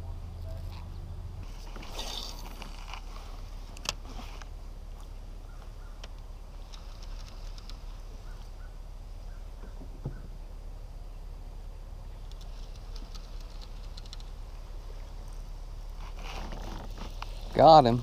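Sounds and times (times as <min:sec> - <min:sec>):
low steady rumble: 0:00.0 - 0:18.0
rustle: 0:00.0 - 0:18.0.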